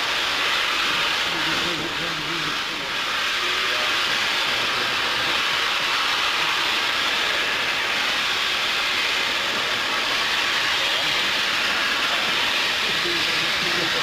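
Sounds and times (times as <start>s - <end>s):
steam locomotive hissing: 0.0s - 14.0s.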